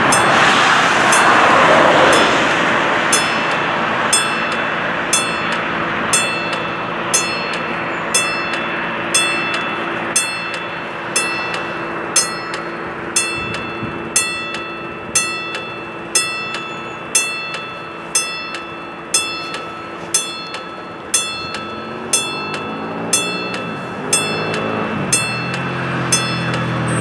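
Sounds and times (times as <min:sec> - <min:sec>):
level-crossing warning bell: 0:00.0 - 0:27.0
vehicle engine rising in pitch: 0:00.0 - 0:27.0.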